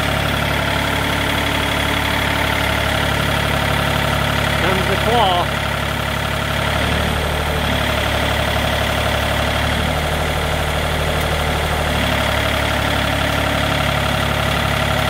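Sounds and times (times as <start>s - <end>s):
sawmill engine idling: 0.0s - 15.0s.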